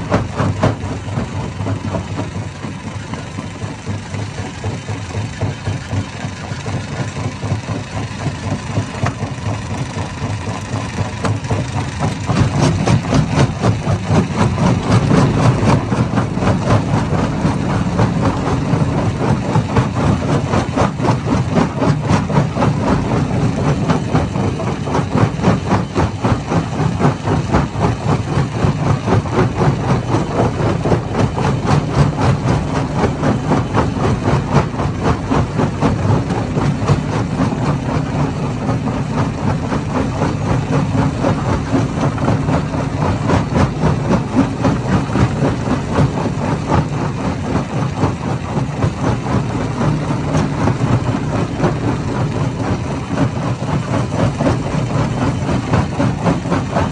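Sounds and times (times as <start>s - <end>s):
stone crusher running: 0.0s - 56.9s.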